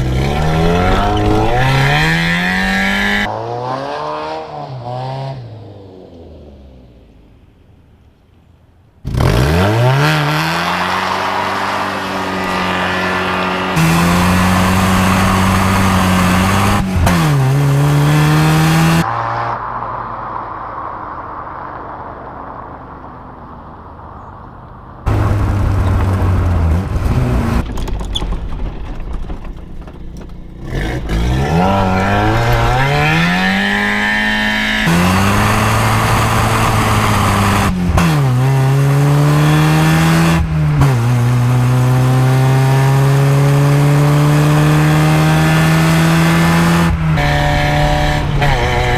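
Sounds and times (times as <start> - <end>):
car engine accelerating: 0.0 - 7.4, 9.1 - 27.7, 29.8 - 48.9.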